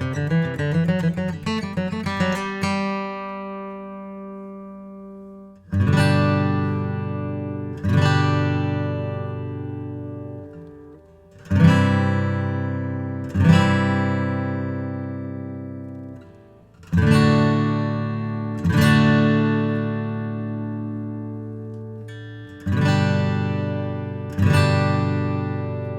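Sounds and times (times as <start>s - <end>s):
acoustic guitar strummed chords: 0.0s - 25.9s.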